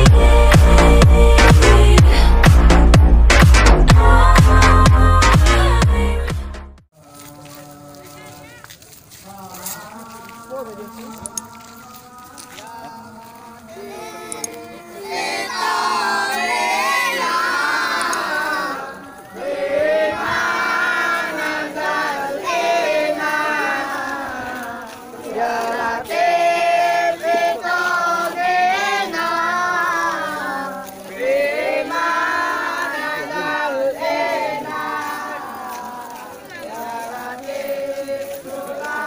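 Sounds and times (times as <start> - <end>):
boys singing together: 0.0 - 2.7, 3.9 - 6.2, 9.3 - 39.0.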